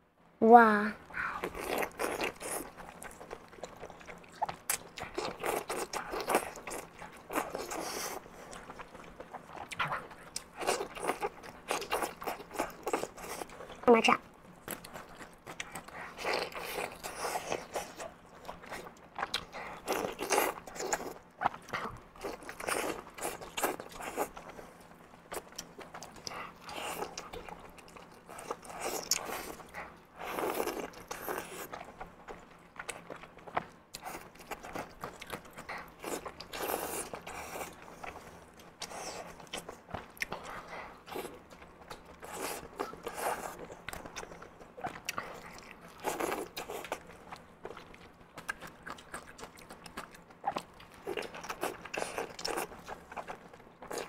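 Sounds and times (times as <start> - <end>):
biting and chewing: 1.2 - 13.8, 14.5 - 54.0.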